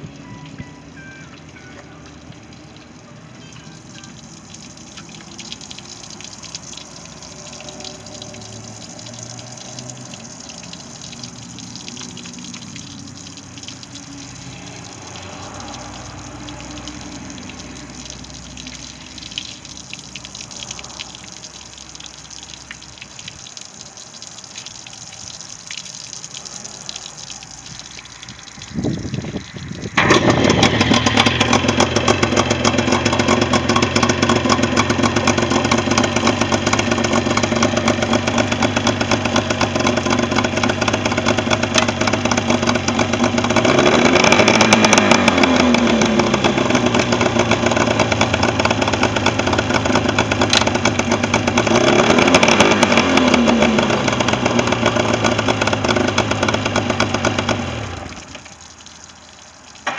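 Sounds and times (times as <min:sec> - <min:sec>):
hose water splashing on pavement: 0:00.0 - 0:59.9
outboard motor starting and running: 0:00.0 - 0:59.9.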